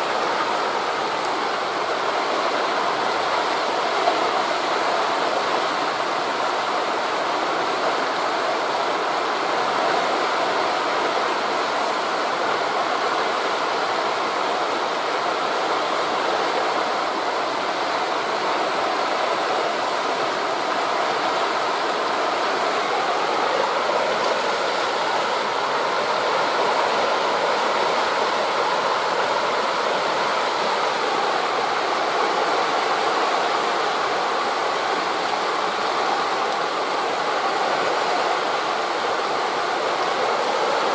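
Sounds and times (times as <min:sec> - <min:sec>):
wind through leaves: 0:00.0 - 0:40.9.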